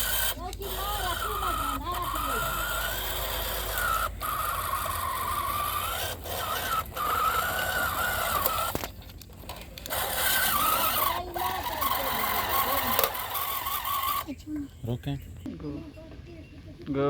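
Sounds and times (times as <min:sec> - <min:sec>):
small motor whining: 0:00.0 - 0:15.3.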